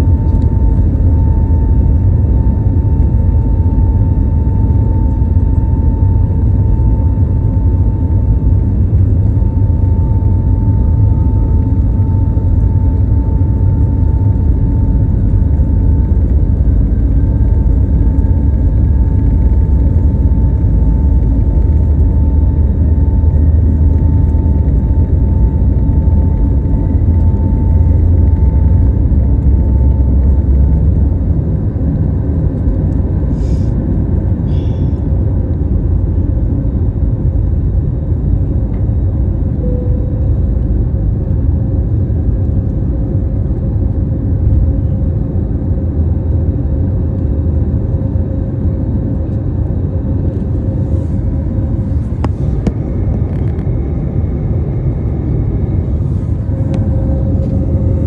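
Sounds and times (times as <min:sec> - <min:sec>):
steady whine: 0:00.0 - 0:58.0
vehicle rumble from inside cabin: 0:00.0 - 0:58.0.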